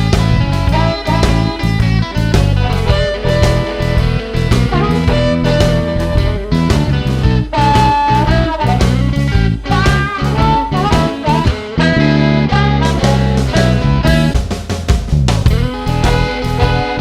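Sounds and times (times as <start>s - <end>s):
guitar-led instrumental music: 0.0s - 17.0s.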